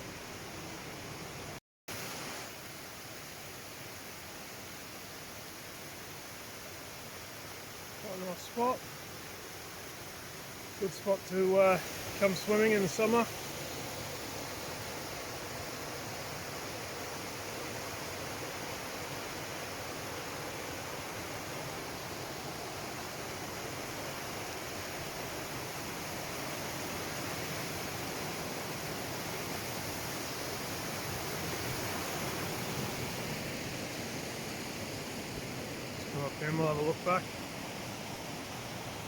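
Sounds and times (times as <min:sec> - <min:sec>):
waterfall rushing: 0:06.5 - 0:39.0.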